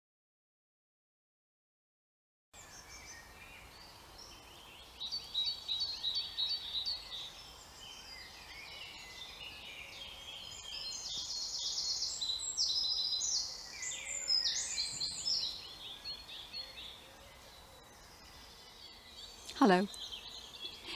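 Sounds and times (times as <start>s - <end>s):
songbirds chirping and trilling: 2.6s - 20.9s.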